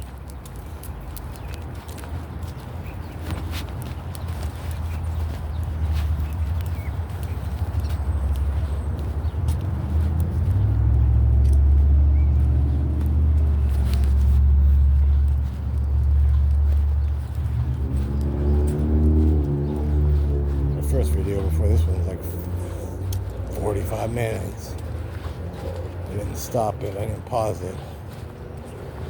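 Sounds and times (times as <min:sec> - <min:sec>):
footsteps clicking: 0:00.0 - 0:29.0
steady low rumble: 0:04.0 - 0:29.0.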